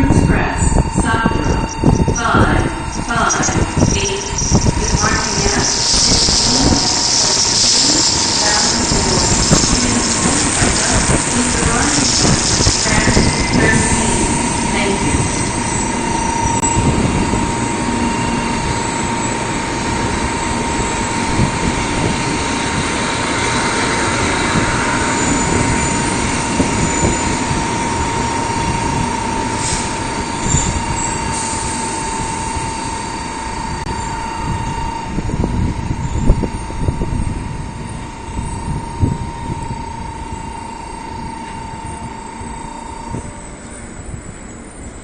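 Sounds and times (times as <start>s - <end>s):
steady high tone: 0.0s - 45.0s
trains rumbling while braking: 0.0s - 45.0s.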